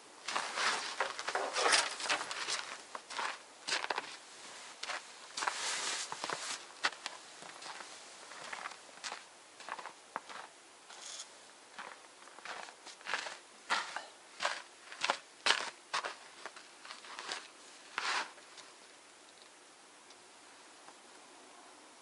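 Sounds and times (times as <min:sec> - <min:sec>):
faint steady hiss: 0:00.0 - 0:22.0
footsteps crunching in snow: 0:00.3 - 0:18.4.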